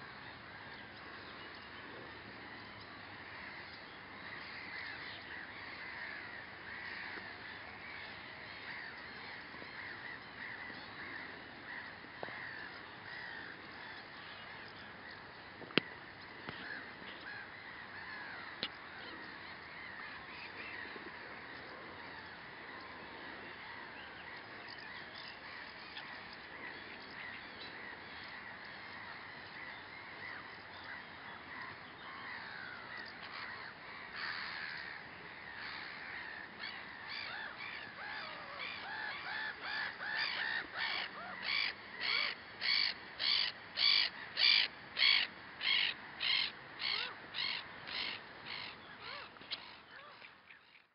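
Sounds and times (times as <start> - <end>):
bird calling: 0.0 - 50.9
faint background birdsong: 0.0 - 50.9.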